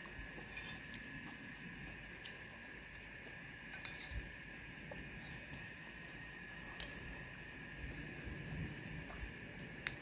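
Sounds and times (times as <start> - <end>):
faint high-pitched hum: 0.0 - 10.0.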